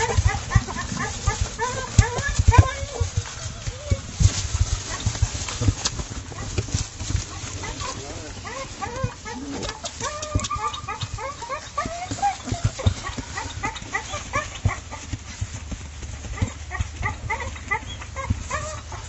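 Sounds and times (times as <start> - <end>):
puppies whimpering and squealing: 0.0 - 15.6, 16.2 - 19.0.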